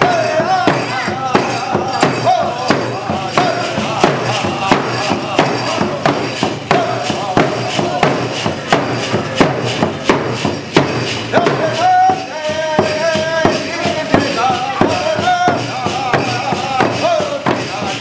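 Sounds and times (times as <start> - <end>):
group of voices singing: 0.0 - 18.0
hand drums beaten steadily: 0.0 - 18.0.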